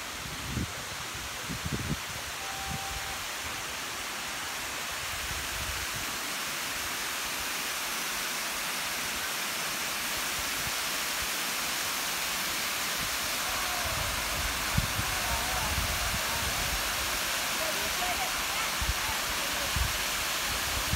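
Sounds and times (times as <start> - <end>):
waterfall rushing over rocks: 0.0 - 20.9.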